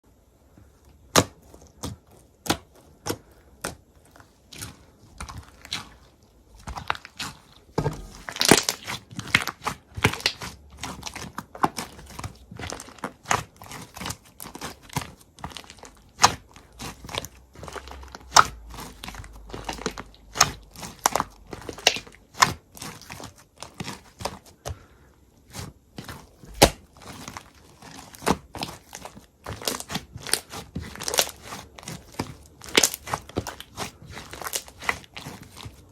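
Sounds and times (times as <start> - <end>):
crisp crunching and cracks: 1.1 - 24.6, 25.5 - 35.9.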